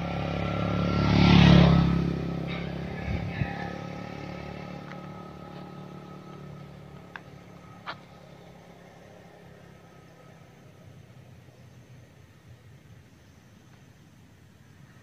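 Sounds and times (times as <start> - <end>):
motor vehicle engine humming: 0.0 - 15.0.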